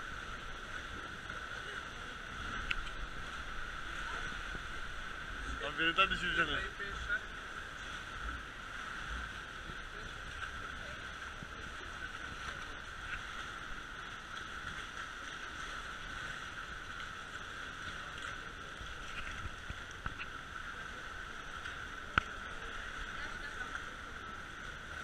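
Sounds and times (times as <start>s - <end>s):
water lapping against hull: 0.0s - 25.0s.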